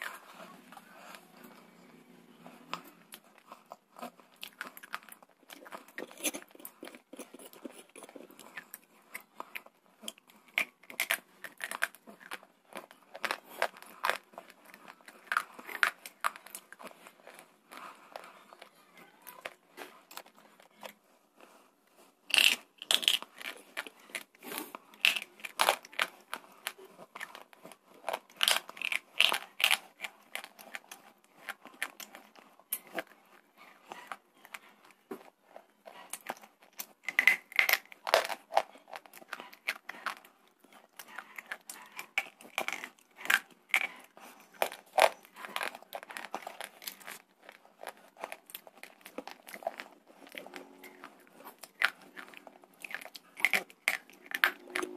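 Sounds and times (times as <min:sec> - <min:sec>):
close chewing and crunching: 0:00.0 - 0:54.9.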